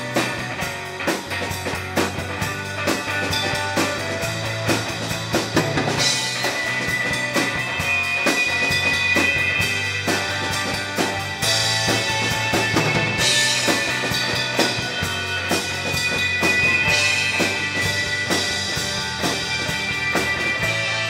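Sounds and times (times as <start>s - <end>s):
drum kit beat: 0.0s - 21.0s
electric bass: 0.0s - 21.0s
strummed electric guitar: 0.0s - 21.0s.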